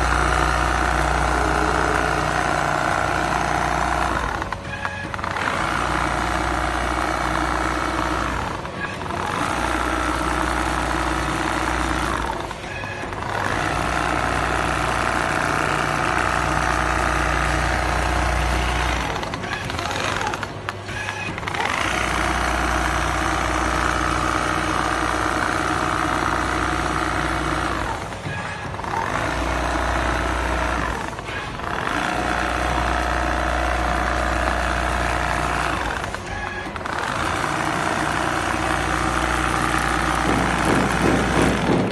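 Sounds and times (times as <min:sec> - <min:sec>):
quilting machine motor hum: 0:00.0 - 0:41.9.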